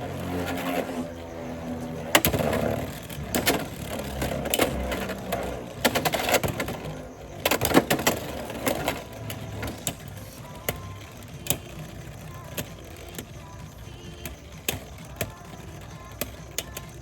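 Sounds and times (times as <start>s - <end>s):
spinning tops rattling: 0.0s - 17.0s.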